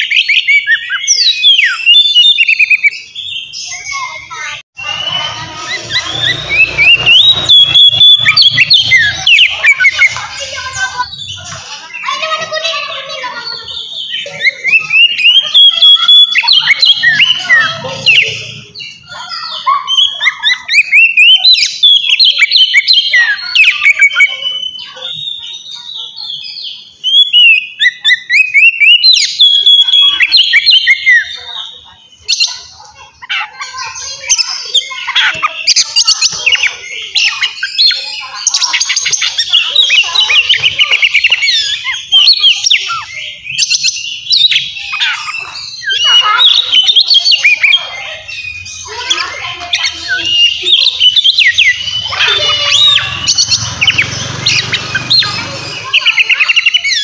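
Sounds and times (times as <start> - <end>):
bird singing whistles and chatter: 0.0 - 57.0.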